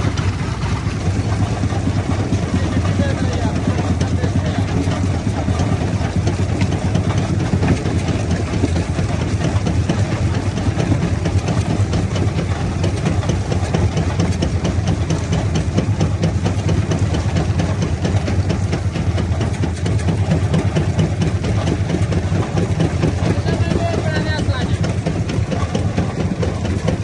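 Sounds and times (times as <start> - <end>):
stone crusher rumbling and rattling: 0.0 - 27.0.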